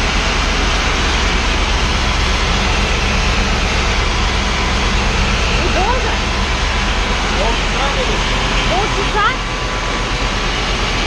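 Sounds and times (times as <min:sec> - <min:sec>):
machine droning: 0:00.0 - 0:11.0
steam hissing from hose: 0:00.0 - 0:11.0.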